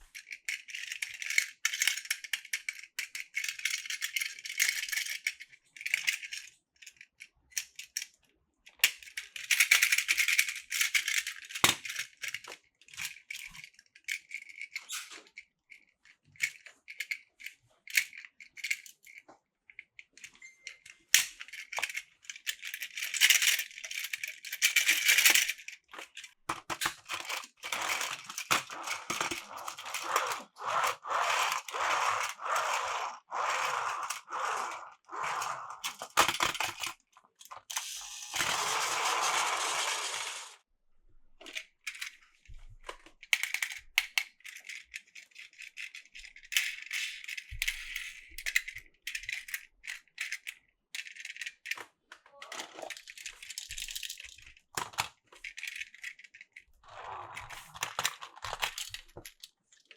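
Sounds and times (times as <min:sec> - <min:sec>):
plastic toy train pieces clacking: 0:00.0 - 0:40.6, 0:41.4 - 0:42.2, 0:42.8 - 0:56.7, 0:57.3 - 0:59.9.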